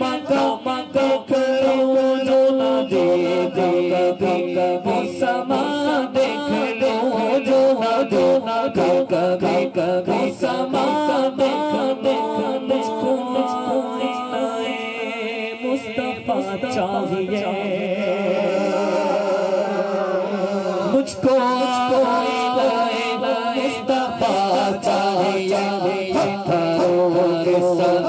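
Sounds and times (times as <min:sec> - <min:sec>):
man singing through a microphone: 0:00.0 - 0:28.0.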